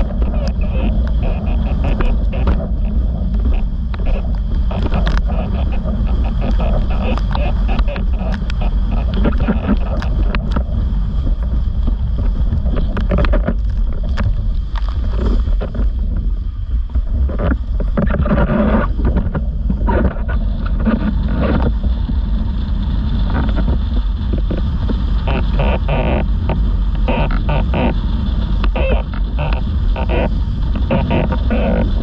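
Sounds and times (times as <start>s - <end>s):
board slapping water: 0.0s - 32.0s
wind rumble on microphone: 0.0s - 32.0s.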